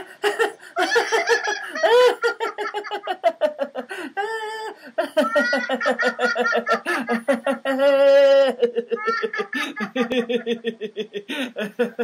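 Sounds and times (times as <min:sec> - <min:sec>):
people laughing rhythmically: 0:00.0 - 0:12.0.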